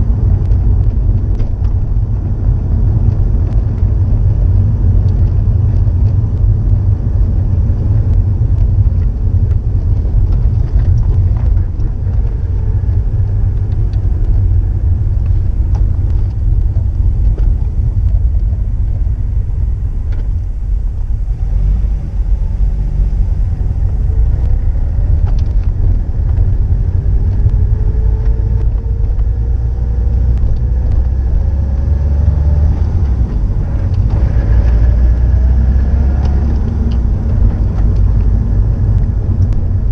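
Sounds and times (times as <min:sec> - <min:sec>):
deep car exhaust note: 0:02.0 - 0:39.9.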